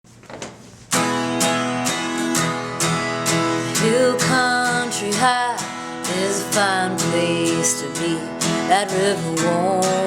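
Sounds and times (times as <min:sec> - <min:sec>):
acoustic guitar strumming: 0:00.9 - 0:10.0
sliding guitar notes: 0:01.0 - 0:10.0.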